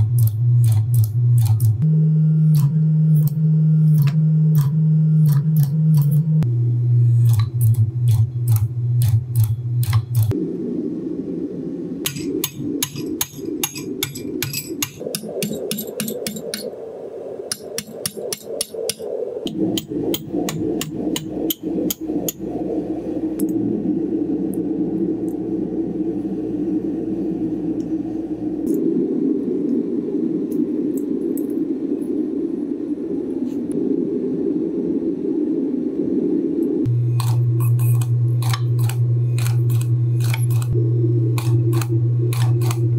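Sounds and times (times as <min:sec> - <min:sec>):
steady low drone: 0:00.0 - 0:42.9.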